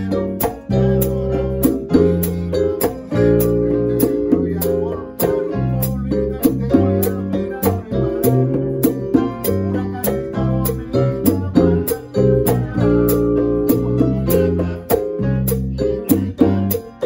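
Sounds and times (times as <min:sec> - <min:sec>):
congas: 0:00.0 - 0:17.0
high percussion ticking: 0:00.0 - 0:17.0
latin jazz band playing: 0:00.0 - 0:17.0
vibraphone: 0:00.0 - 0:17.0.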